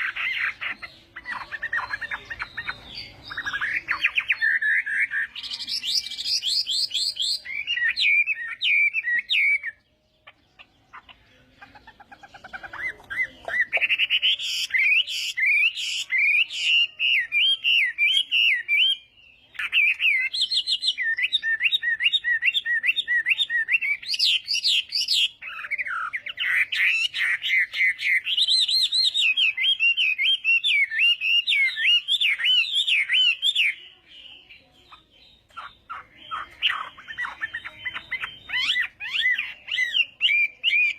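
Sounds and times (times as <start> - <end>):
bird singing whistled phrases: 0.0 - 9.9, 12.7 - 40.9.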